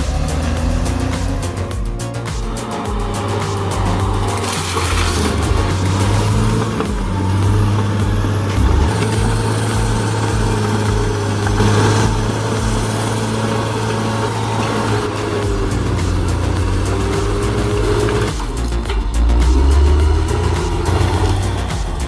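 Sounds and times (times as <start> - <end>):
music with pulsing bass: 0.0 - 22.0.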